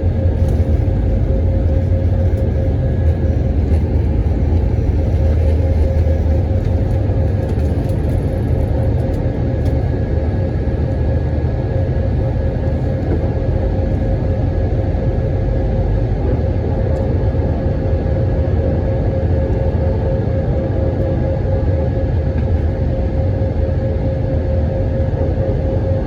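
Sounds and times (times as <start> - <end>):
aircraft cabin engine rumble: 0.0 - 26.0
steady engine whine: 0.0 - 26.0.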